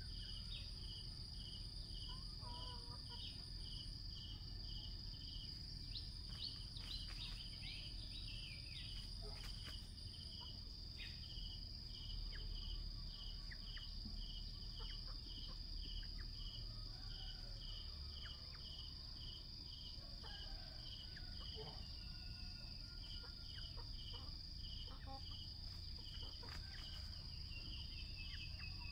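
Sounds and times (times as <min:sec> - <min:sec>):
insect chirp: 0:00.0 - 0:28.9
insects droning high-pitched: 0:00.0 - 0:28.9.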